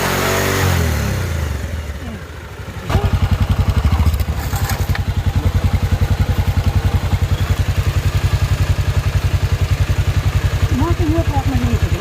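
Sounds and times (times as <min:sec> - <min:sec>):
motorcycle engine idling: 0:01.2 - 0:12.0.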